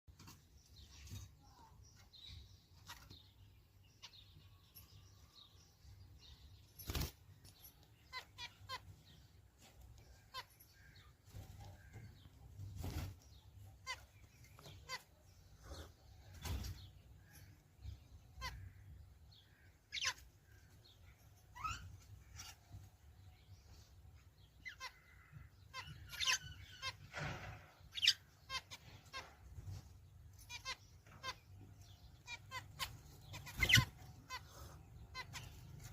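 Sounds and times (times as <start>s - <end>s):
finches chirping: 0.1s - 35.9s.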